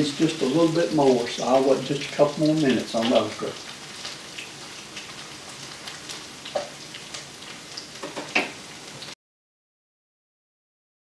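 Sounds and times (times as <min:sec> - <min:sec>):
okra sizzling in oil: 0:00.0 - 0:09.2.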